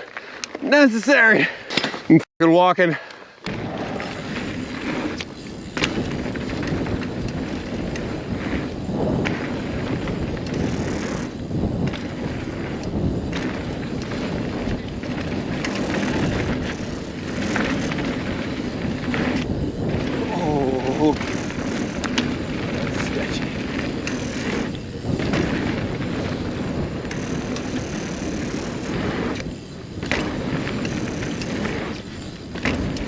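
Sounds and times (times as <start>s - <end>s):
bike clicks and rattles: 0.0s - 2.2s, 2.8s - 33.0s
bike tyre and wind noise: 0.0s - 33.0s.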